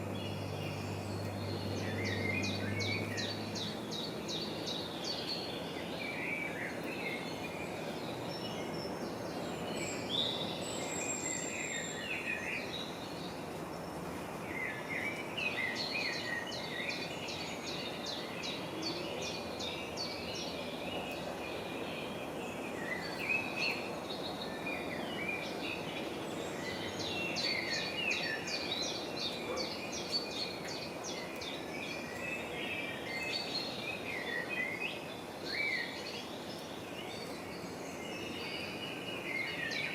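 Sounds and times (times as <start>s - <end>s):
background noise: 0.0s - 39.9s
small birds chirping: 0.0s - 39.9s.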